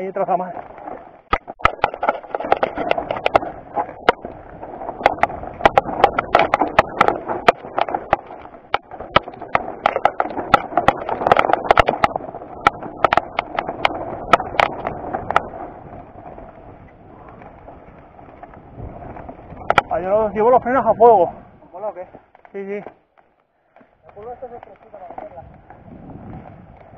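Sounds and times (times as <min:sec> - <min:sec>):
bike knocking on rocks: 0:00.0 - 0:26.9
steady rushing noise: 0:00.5 - 0:22.4.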